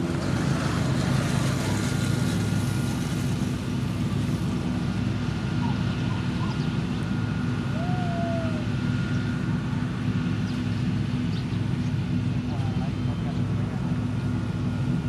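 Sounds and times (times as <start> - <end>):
diesel engine running: 0.0 - 15.0
thin steady whine: 0.0 - 15.0.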